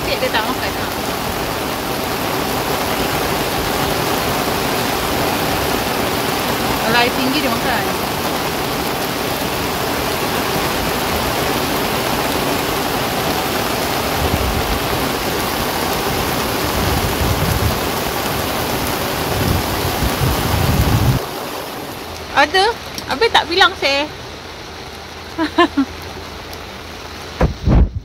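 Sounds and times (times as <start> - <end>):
heavy rain on water: 0.0 - 28.0.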